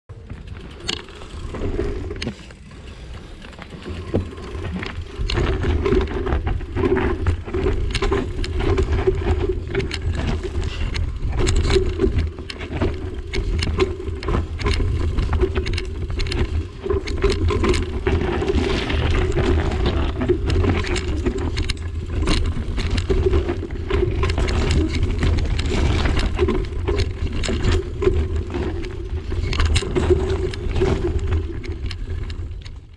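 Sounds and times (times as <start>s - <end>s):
bike rattling over rocks: 0.1s - 32.9s
bike tyres crunching over stones: 0.1s - 32.9s.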